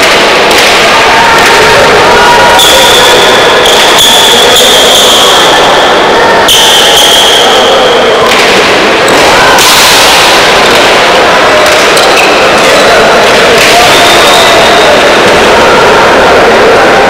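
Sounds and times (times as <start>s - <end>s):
ball striking wall echoing: 0.0s - 15.9s.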